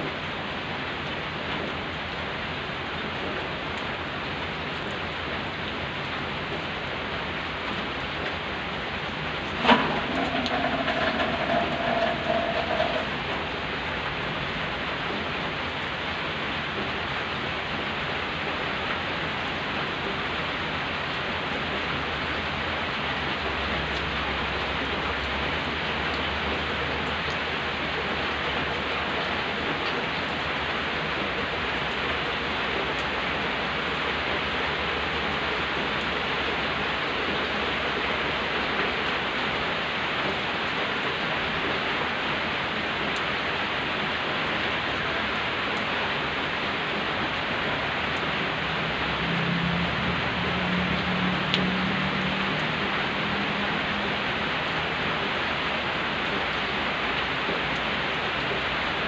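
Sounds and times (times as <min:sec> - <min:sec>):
rain on dirt road and foliage: 0:00.0 - 0:59.0.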